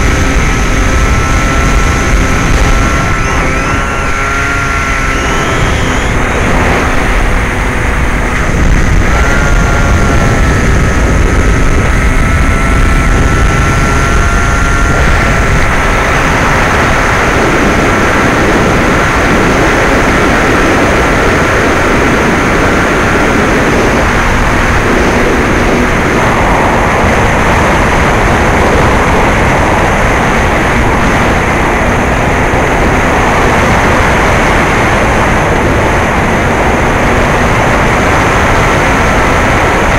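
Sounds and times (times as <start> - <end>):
airflow rushing: 0.0 - 39.9
electric motor whining: 0.0 - 39.9.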